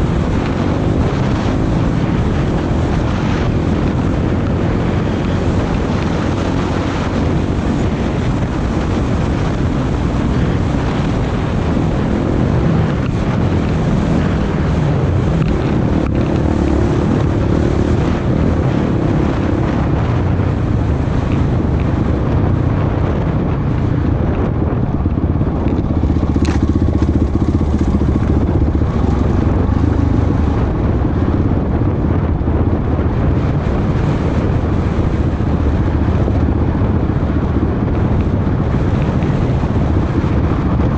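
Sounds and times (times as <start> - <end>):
off-road vehicle engine running: 0.0 - 40.9
wind noise on microphone: 0.0 - 40.9.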